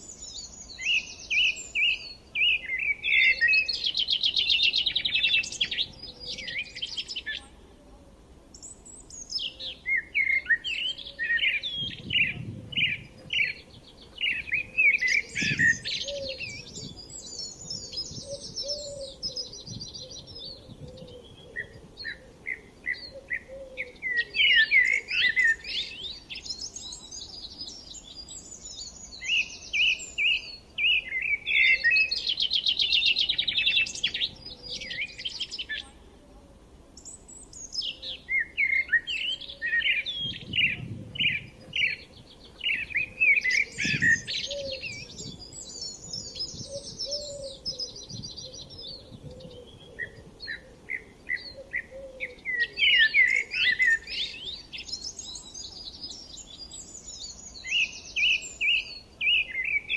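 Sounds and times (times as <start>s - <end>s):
birds chirping and singing: 0.0s - 7.5s, 8.6s - 35.9s, 37.0s - 59.9s.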